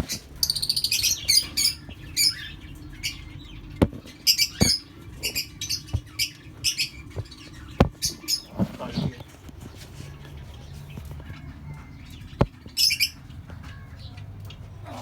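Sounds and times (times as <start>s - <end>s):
small parrots chirping and squawking: 0.0s - 15.0s.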